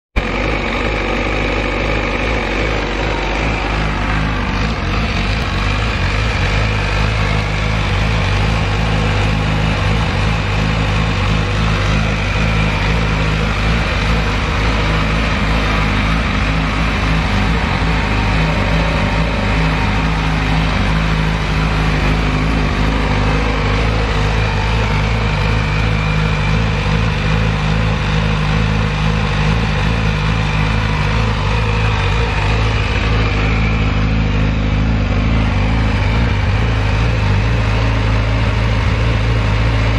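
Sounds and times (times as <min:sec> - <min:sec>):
motorcycle engine idling: 0:00.1 - 0:39.9.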